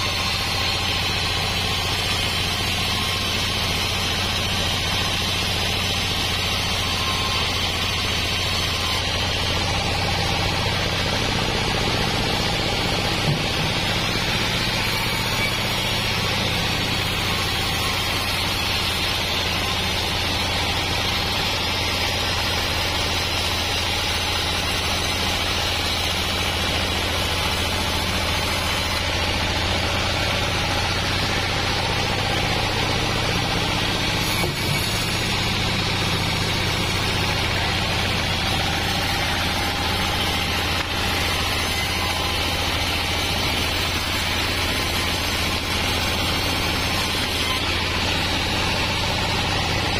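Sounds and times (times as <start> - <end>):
band saw cutting log: 0.0 - 49.9
diesel engine hum: 0.0 - 49.9.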